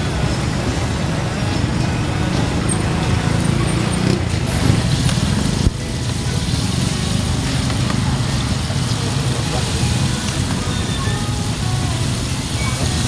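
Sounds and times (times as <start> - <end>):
street traffic engines: 0.0 - 13.0.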